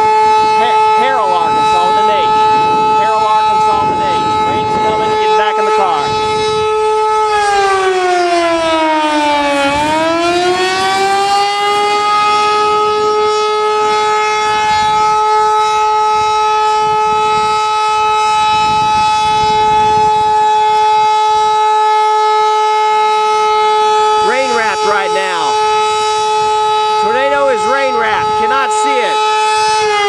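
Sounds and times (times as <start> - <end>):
tornado warning siren wailing: 0.0 - 30.0.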